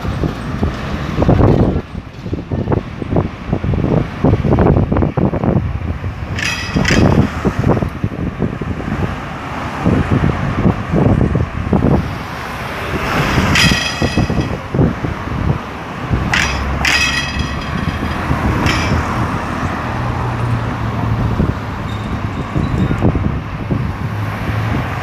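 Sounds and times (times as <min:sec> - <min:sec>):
cars driving past: 0:03.4 - 0:25.0.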